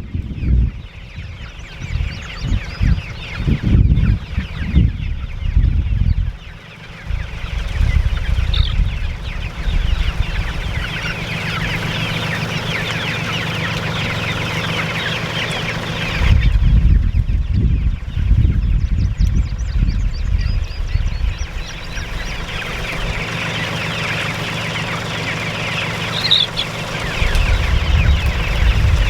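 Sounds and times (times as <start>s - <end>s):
chickens peeping and clucking: 0.0s - 29.0s
steady low rumble: 0.0s - 29.0s.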